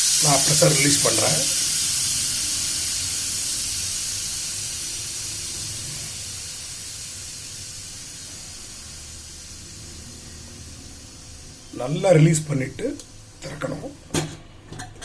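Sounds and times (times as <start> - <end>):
pressure cooker steam hissing: 0.0 - 14.4.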